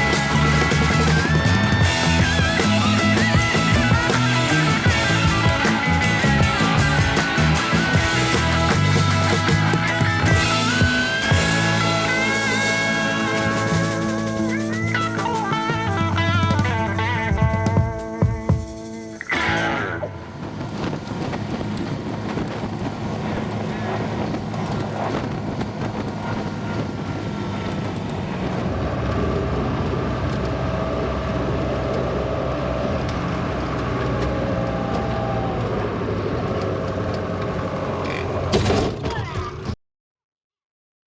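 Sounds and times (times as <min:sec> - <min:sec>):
wheel loader engine running: 0:00.0 - 0:38.8.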